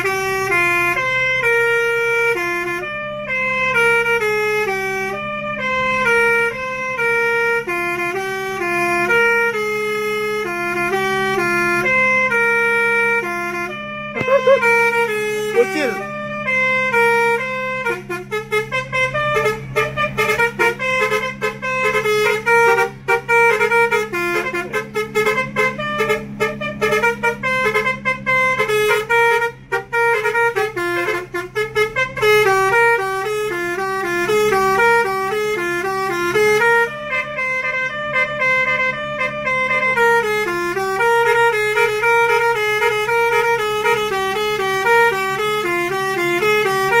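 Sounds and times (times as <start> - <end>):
bus engine drone: 0.0 - 47.0
musical air horn melody: 0.0 - 47.0.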